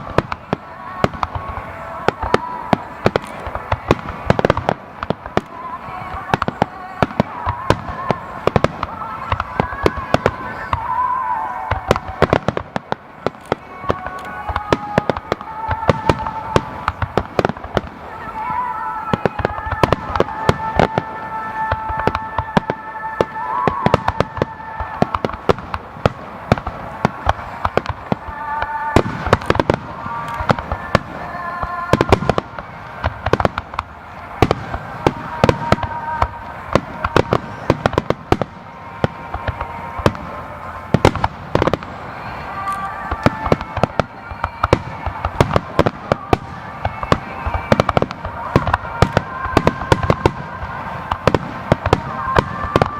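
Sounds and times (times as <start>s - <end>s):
fireworks crackle: 0.0s - 52.9s
music playing: 0.0s - 52.9s.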